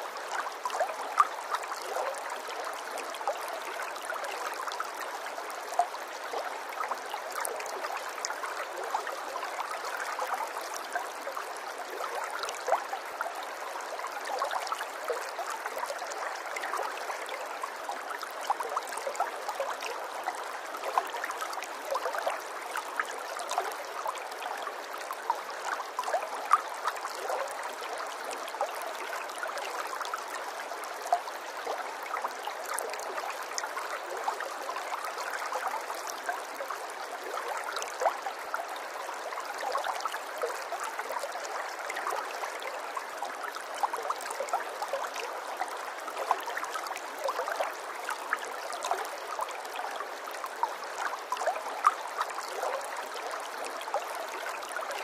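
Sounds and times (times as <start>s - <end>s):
water trickling and bubbling: 0.0s - 55.0s.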